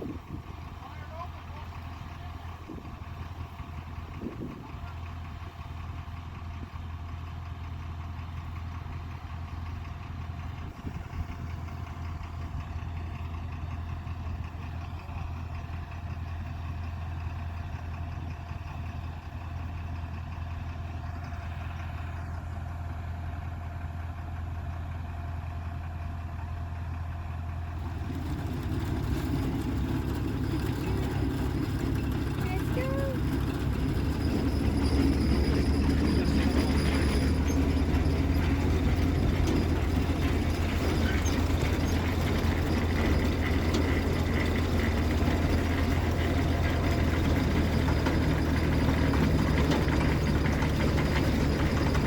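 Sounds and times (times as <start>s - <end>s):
heavy farm engine humming: 0.0s - 52.0s.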